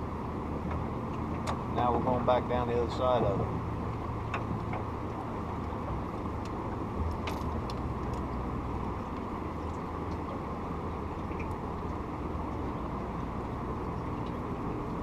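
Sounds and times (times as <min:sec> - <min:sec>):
boat motor humming: 0:00.0 - 0:15.0
rushing water: 0:00.0 - 0:15.0.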